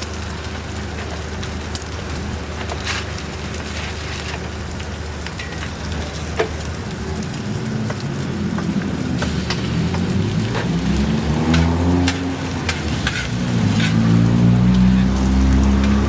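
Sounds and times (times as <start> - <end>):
patties sizzling on a griddle: 0.0 - 16.0.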